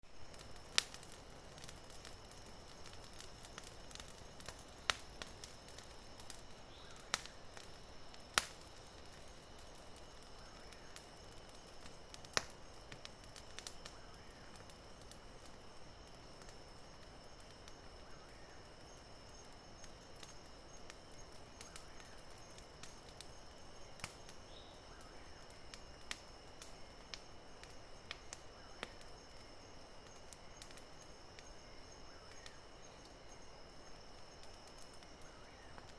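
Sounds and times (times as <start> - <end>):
campfire crackling and popping: 0.0 - 35.9
insect chirring: 0.0 - 35.9.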